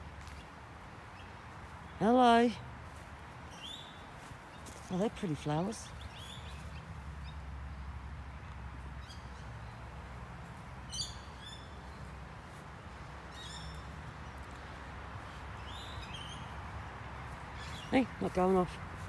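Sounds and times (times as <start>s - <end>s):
birds calling: 3.3s - 19.0s.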